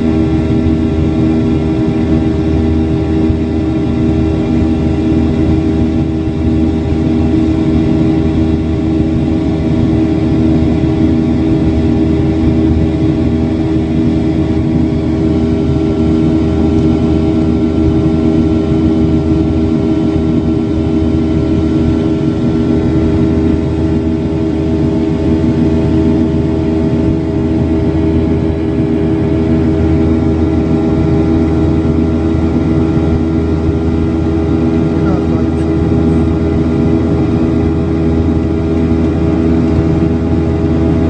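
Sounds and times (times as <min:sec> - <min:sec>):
aircraft engines droning: 0:00.0 - 0:41.0.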